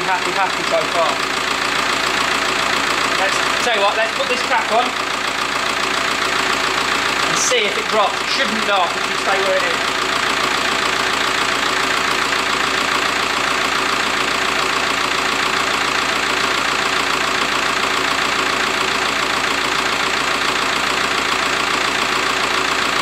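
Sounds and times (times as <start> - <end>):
diesel engine idling with tapping: 0.0 - 23.0.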